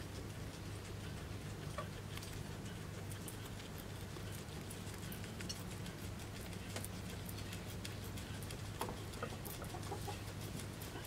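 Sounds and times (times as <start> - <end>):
guinea pig chewing leaves: 0.0 - 11.0.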